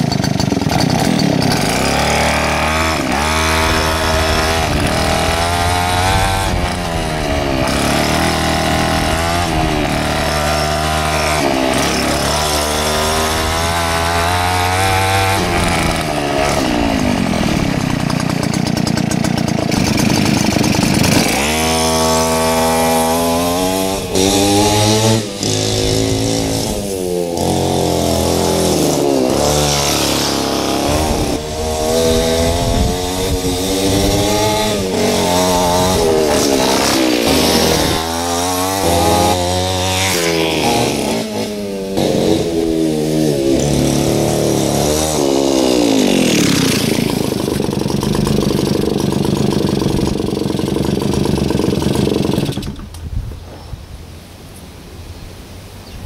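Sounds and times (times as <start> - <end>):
small two-stroke engine revving: 0.0 - 53.1.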